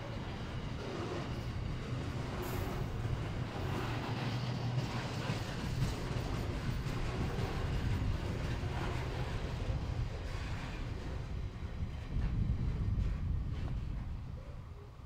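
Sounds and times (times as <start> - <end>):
freight wagons rumbling on rails: 0.0 - 14.6.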